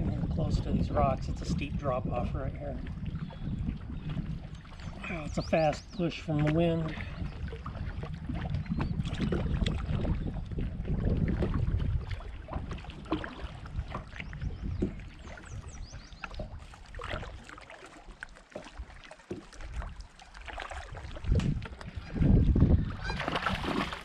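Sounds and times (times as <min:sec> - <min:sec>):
wind buffeting microphone: 0:00.0 - 0:17.5, 0:20.6 - 0:24.0
water lapping against kayak hull: 0:00.0 - 0:24.0.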